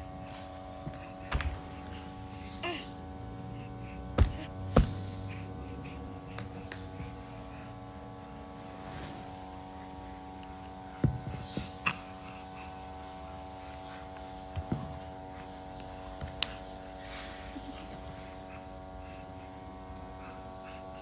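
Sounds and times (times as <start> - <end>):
steady electric hum: 0.0 - 21.0.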